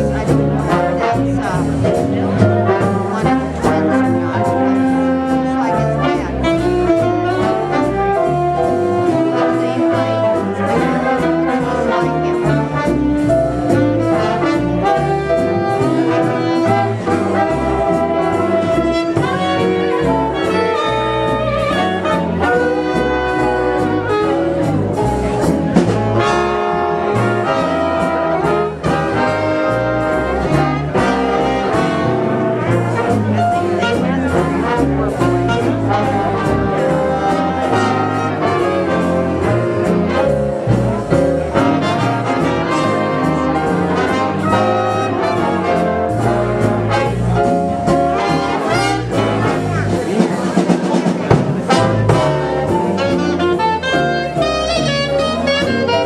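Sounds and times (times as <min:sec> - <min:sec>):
brass jazz band playing: 0:00.0 - 0:56.0.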